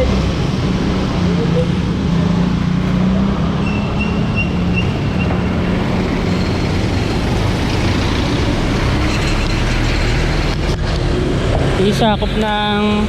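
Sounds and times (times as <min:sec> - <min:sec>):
street traffic: 0:00.0 - 0:13.0
vehicle engine humming: 0:00.0 - 0:13.0.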